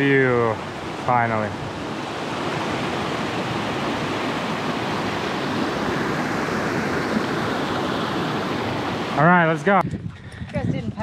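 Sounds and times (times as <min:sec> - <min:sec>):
stream rushing over boulders: 0:00.0 - 0:09.8.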